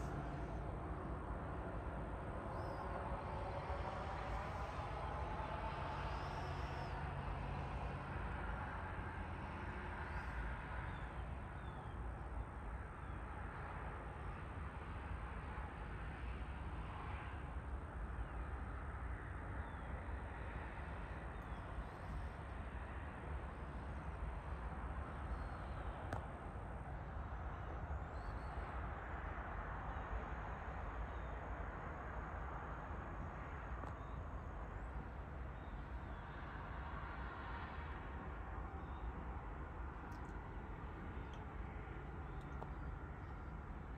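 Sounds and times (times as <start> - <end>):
low rumble and hiss of open air: 0.0 - 43.9.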